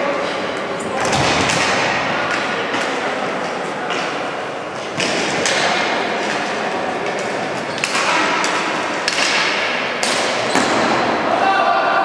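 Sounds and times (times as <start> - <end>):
background hubbub: 0.0 - 12.0
hockey sticks clacking ball: 0.2 - 11.2.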